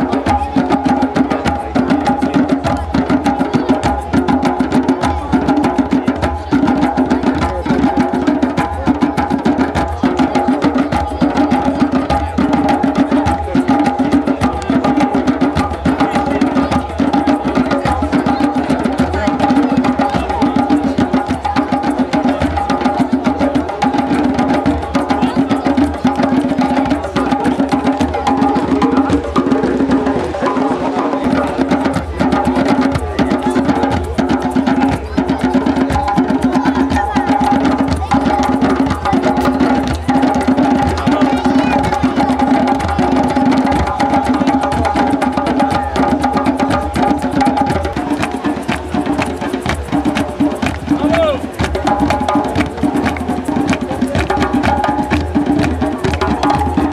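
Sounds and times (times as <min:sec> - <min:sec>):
djembe drum circle: 0:00.0 - 0:56.9.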